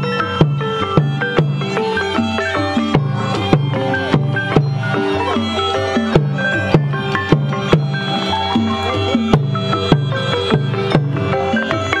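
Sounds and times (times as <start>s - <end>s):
drums striking: 0.0s - 12.0s
pitched percussion melody: 0.0s - 12.0s.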